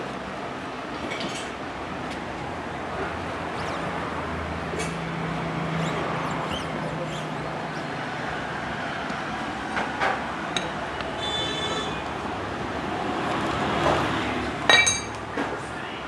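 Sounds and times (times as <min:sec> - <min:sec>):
background traffic noise: 0:00.0 - 0:16.0.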